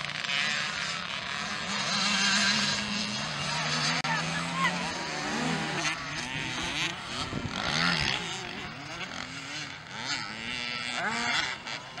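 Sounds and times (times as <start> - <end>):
small motocross bikes revving: 0.0 - 12.0.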